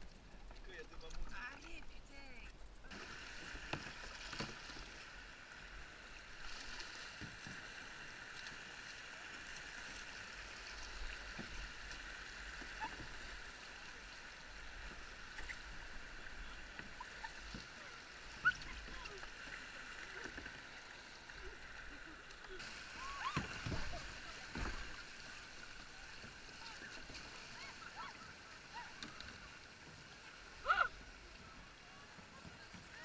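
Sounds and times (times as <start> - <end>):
paddle splashes and hull knocks: 2.9 - 33.0
river water rushing: 2.9 - 33.0.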